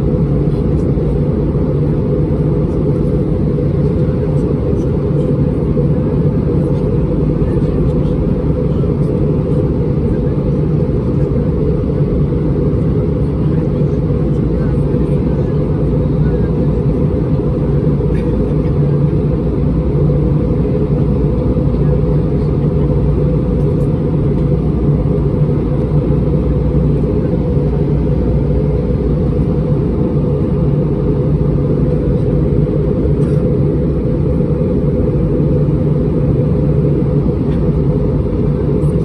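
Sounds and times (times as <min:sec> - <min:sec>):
aircraft cabin engine rumble: 0:00.0 - 0:39.0
constant low hum: 0:00.0 - 0:39.0.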